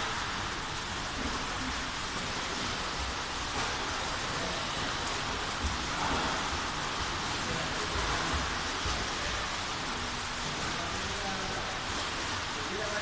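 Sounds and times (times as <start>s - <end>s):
water washing in swimming pool: 0.0s - 13.0s.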